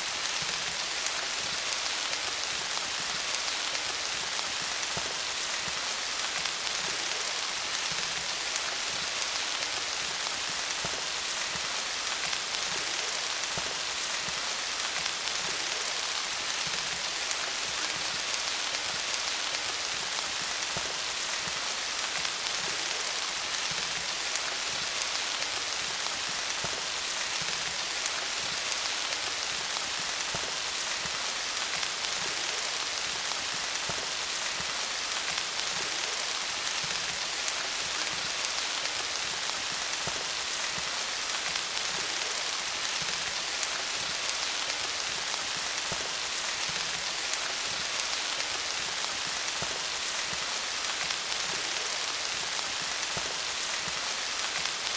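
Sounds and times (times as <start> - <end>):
rain pattering on leaves: 0.0 - 54.9.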